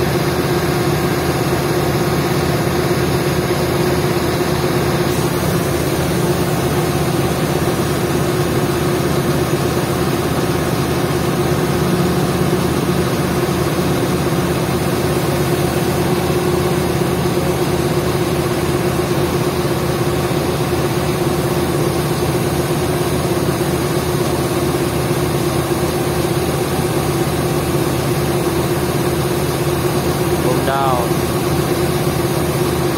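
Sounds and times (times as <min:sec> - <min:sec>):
diesel engine running steadily: 0:00.0 - 0:32.9.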